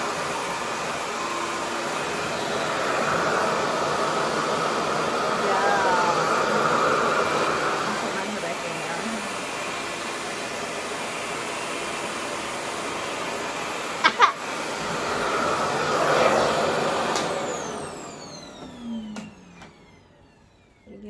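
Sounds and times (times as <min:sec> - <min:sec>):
motor whine spinning down: 0:00.0 - 0:10.2, 0:13.1 - 0:21.0
hair dryer running: 0:00.0 - 0:21.0.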